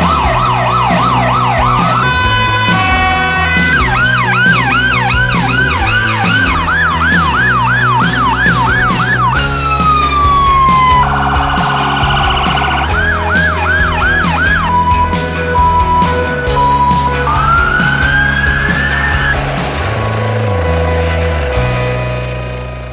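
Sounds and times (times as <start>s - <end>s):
emergency vehicle siren: 0.0s - 22.0s
background music with beat: 0.0s - 22.3s.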